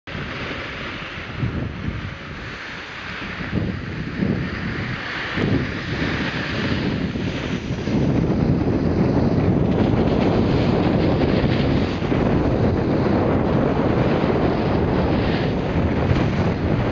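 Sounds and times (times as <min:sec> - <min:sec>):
wind buffeting microphone: 0:00.1 - 0:16.9
skis scraping packed snow: 0:02.2 - 0:16.9.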